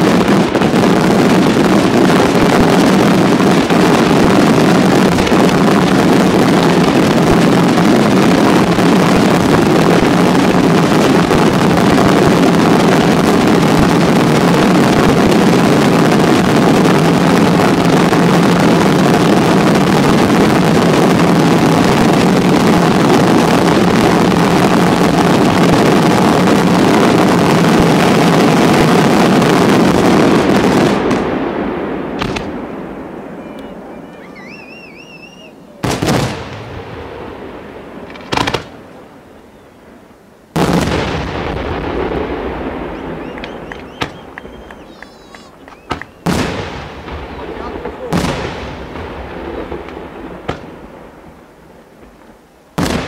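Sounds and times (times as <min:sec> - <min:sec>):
fireworks rumble: 0:00.0 - 0:53.0.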